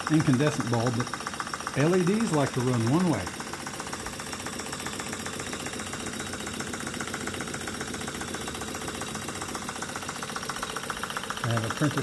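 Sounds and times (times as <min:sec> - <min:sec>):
toy steam engine running: 0:00.0 - 0:12.0.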